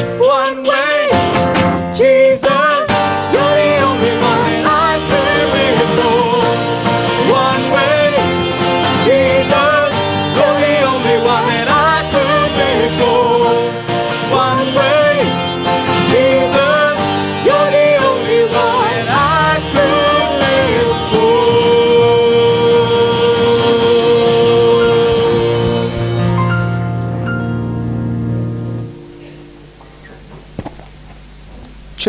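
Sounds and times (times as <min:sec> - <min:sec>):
person singing: 0:00.0 - 0:26.4
band with guitar: 0:00.0 - 0:32.0.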